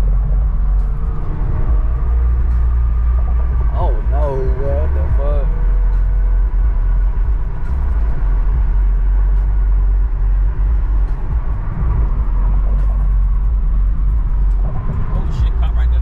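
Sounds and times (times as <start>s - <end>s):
car rumbling on the move: 0.0s - 16.0s.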